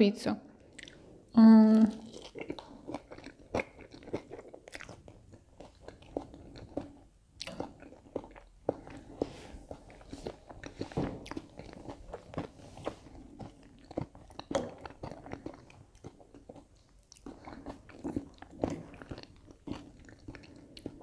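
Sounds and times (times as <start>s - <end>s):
chewing and crunching: 0.6s - 1.0s, 1.8s - 21.0s.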